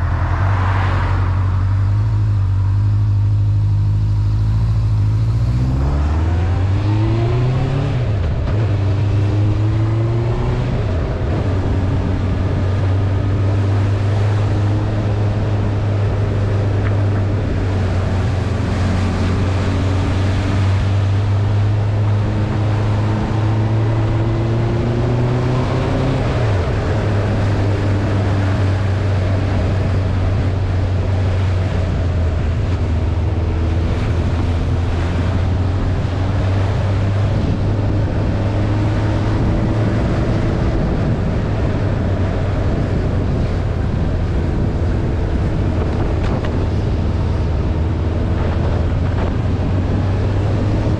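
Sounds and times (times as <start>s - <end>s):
wind rushing over microphone: 0.0s - 50.9s
motorcycle engine accelerating: 1.4s - 50.9s.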